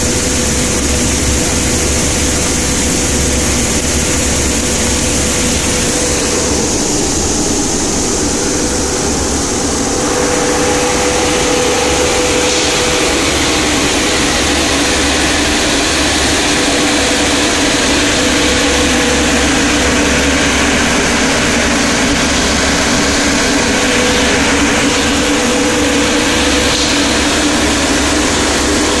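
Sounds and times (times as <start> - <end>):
loud rush of air from fan: 0.0 - 29.0
machine hum with held note: 0.0 - 29.0.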